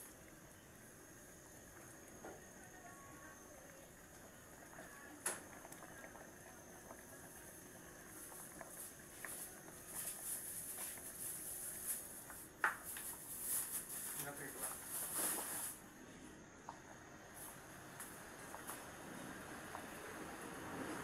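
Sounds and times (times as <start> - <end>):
broth bubbling in a pot: 0.0 - 21.0.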